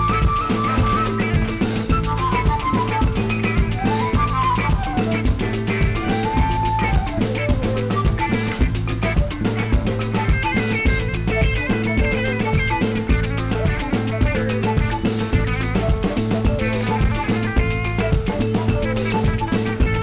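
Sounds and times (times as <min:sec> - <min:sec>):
drum kit beat: 0:00.0 - 0:20.0
held bass: 0:00.0 - 0:20.0
melodic lead line: 0:00.0 - 0:20.0.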